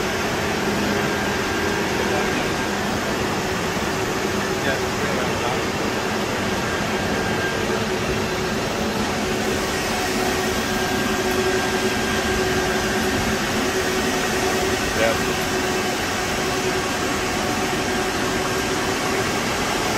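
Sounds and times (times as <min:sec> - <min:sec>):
cooling fans rushing air: 0:00.0 - 0:19.9.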